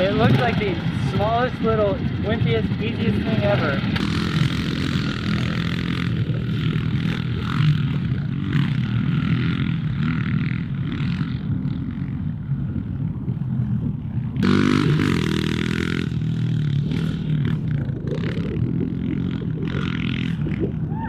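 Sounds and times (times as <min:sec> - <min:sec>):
dirt bike engines revving: 0:00.0 - 0:21.0
dirt bike passing close: 0:00.0 - 0:21.0.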